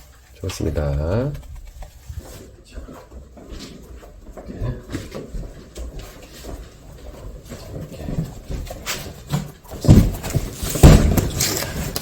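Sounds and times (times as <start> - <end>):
knocks of things being handled: 0.5 - 12.0.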